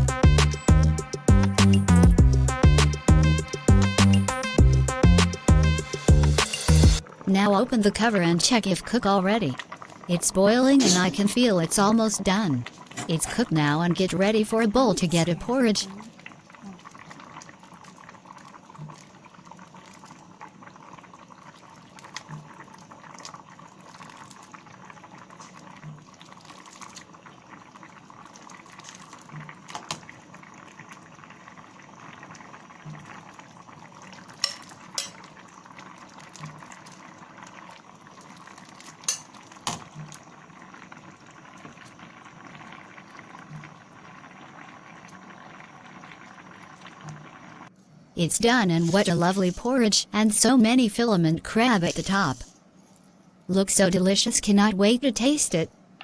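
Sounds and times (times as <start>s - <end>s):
porridge bubbling at the boil: 2.1s - 10.8s, 11.6s - 50.0s.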